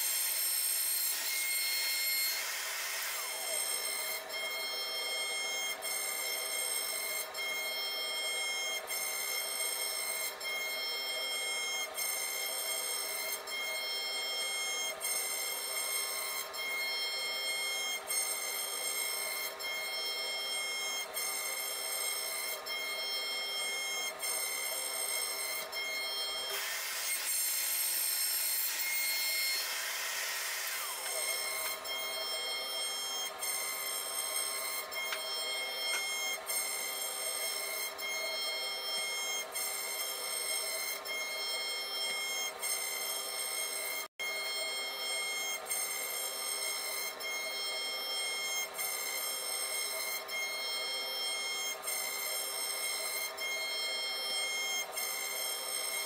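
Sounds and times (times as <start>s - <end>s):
carving bit cutting wood hiss: 0.0s - 56.0s
router spindle whine: 0.0s - 56.0s.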